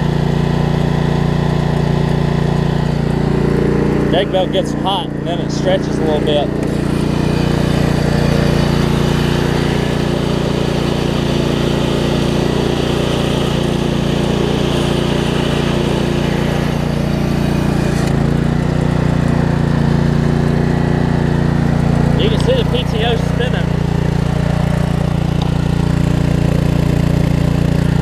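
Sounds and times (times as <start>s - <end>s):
riding mower engine running: 0.0s - 28.0s.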